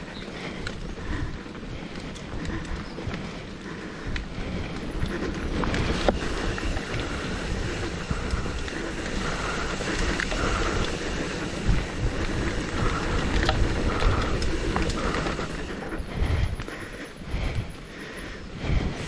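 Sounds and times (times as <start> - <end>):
bike rattling clicks and knocks: 0.0 - 19.0
bike tyre rumble: 0.0 - 19.0
wind buffeting microphone: 0.0 - 19.0.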